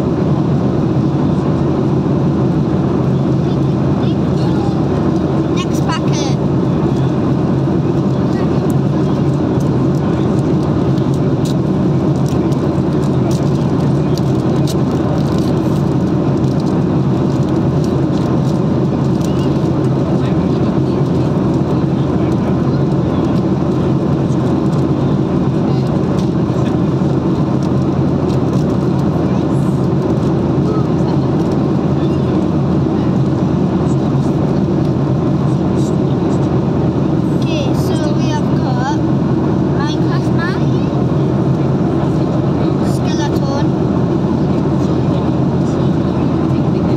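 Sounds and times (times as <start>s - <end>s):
car cabin road and engine rumble: 0.0s - 46.9s.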